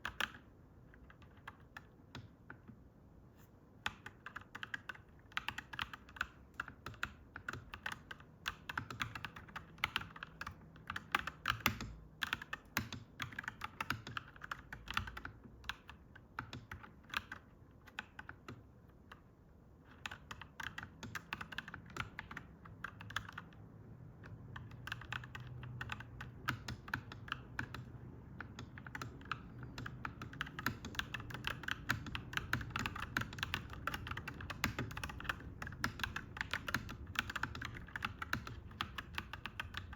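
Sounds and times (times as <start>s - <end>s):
mechanical keyboard typing: 0.0s - 2.8s, 3.8s - 39.9s.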